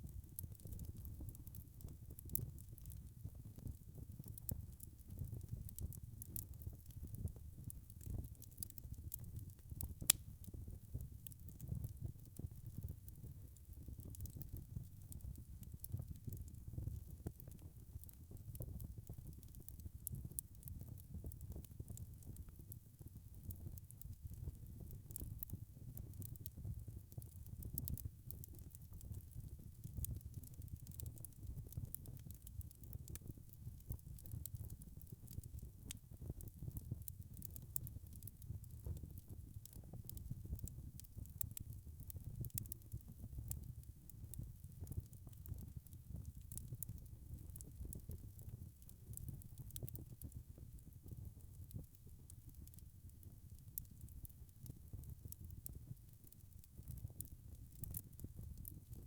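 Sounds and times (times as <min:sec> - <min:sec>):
fire crackles and pops: 0:00.0 - 0:59.0.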